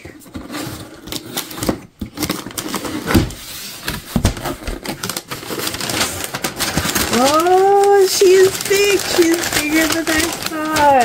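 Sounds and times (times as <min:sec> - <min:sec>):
tissue paper rustling: 0:00.2 - 0:11.0.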